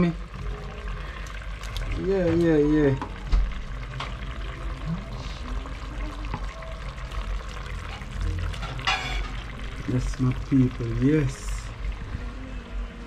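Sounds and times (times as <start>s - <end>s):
sauce bubbling in frying pan: 0.0s - 13.0s.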